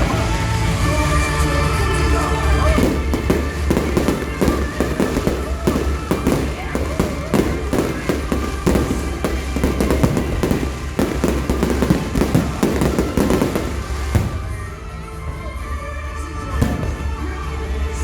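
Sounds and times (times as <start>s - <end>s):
fireworks bangs and crackles: 0.0s - 18.0s
music: 0.0s - 18.0s.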